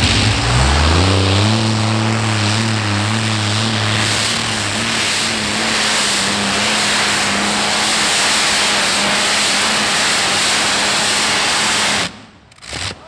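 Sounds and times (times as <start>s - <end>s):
tractor engine roaring: 0.0s - 13.0s.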